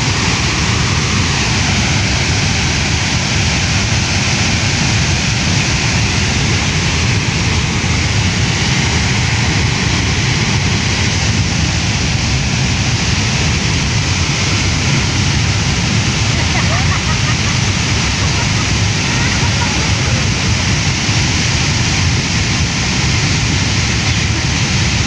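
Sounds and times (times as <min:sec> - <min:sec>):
flooded river rushing: 0:00.0 - 0:25.0.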